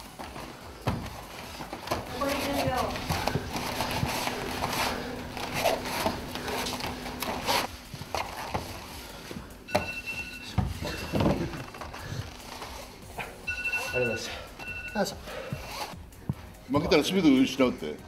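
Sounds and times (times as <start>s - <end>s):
bodies scuffling on mats: 0.0s - 14.7s.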